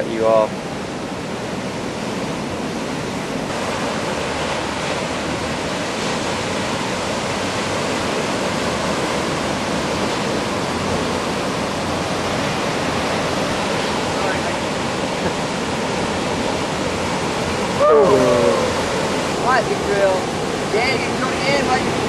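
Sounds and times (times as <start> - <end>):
surf and moving water: 0.0 - 22.0.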